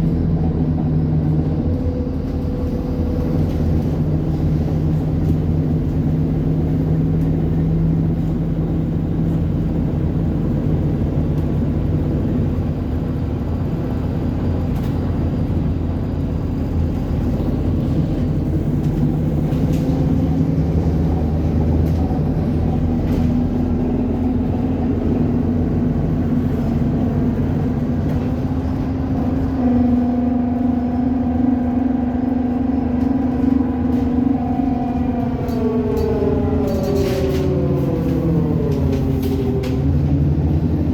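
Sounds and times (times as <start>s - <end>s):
bus engine whining drone: 0.0s - 40.9s.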